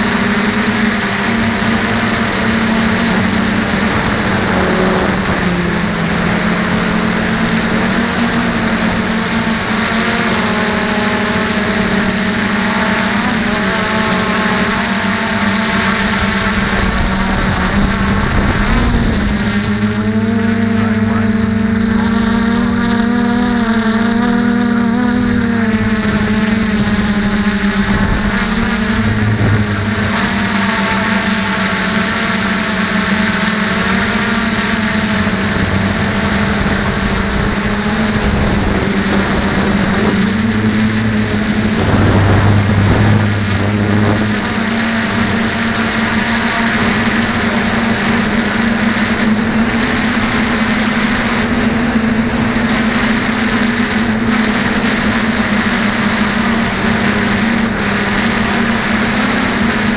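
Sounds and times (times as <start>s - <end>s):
quadcopter propellers buzzing: 0.0s - 59.9s.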